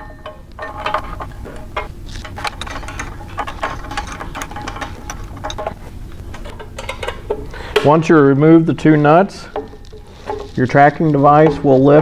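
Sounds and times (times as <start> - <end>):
hand tool clicking and rattling: 0.0 - 8.2, 8.8 - 12.0.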